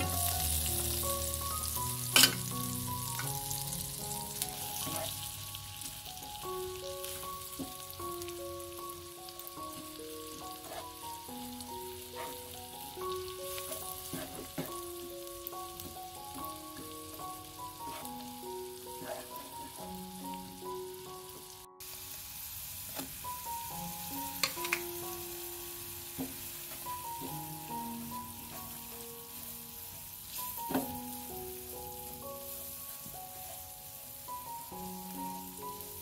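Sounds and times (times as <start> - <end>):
background music: 0.0 - 36.0
onion sizzling in butter: 0.0 - 36.0.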